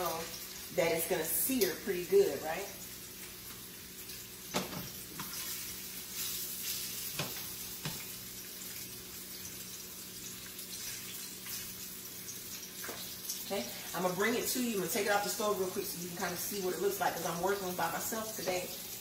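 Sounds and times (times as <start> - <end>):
fish sizzling in a frying pan: 0.0 - 19.0.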